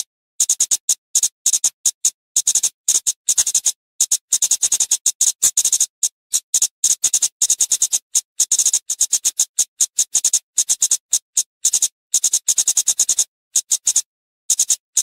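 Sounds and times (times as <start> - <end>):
bird calling high ticking chips: 0.4 - 15.0.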